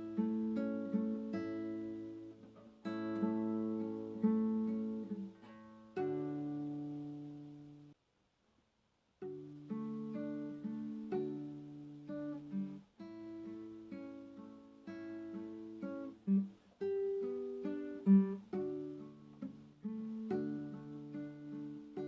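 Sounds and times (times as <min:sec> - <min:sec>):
acoustic guitar playing gently: 0:00.0 - 0:08.0, 0:09.2 - 0:22.0.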